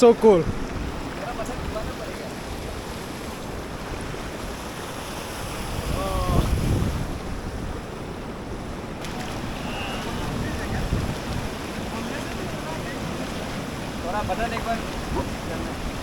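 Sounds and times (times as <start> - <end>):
river water rushing: 0.0 - 16.0
wind buffeting microphone: 0.2 - 16.0.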